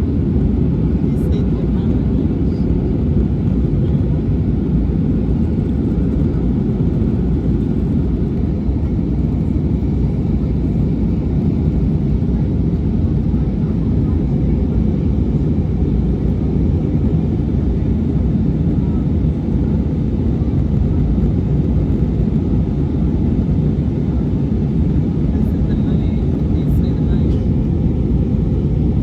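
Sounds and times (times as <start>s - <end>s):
jet engine roar in cabin: 0.0s - 29.0s.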